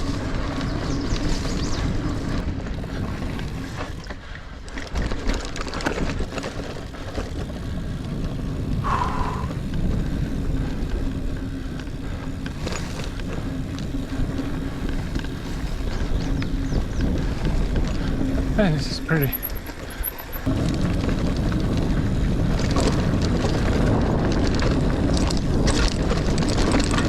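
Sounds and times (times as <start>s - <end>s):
bike chain and frame rattling: 0.0s - 27.0s
bike tyres rolling on dirt: 0.0s - 27.0s.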